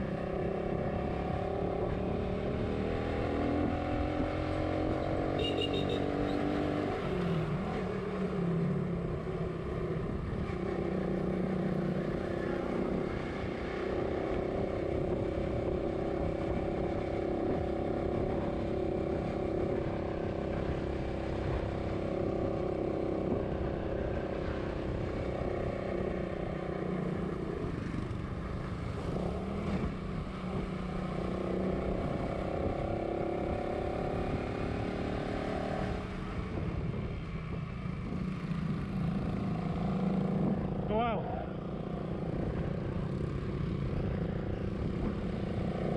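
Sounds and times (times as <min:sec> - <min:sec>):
road noise: 0:00.0 - 0:45.9.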